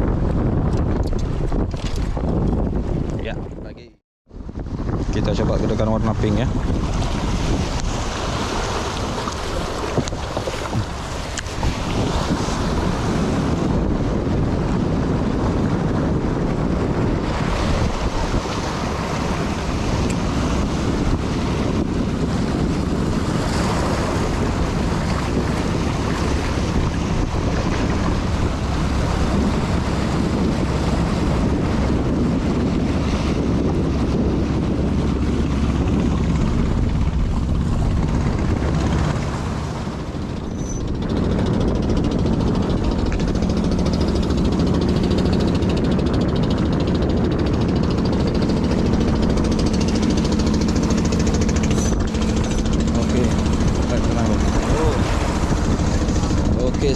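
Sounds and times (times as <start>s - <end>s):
wind buffeting microphone: 0.0s - 56.9s
waves washing on rocky shore: 6.1s - 13.6s, 17.1s - 56.9s.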